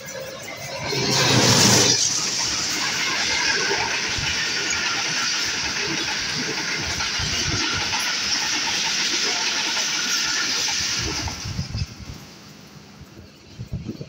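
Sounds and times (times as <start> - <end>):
train rolling on rails: 0.0 - 14.0.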